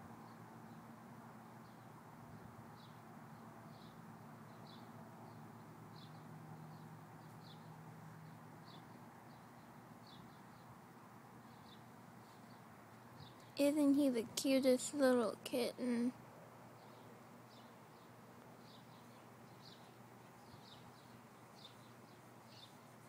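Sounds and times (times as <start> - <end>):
faint low hum: 0.0 - 23.0
small bird chirping: 1.6 - 23.0.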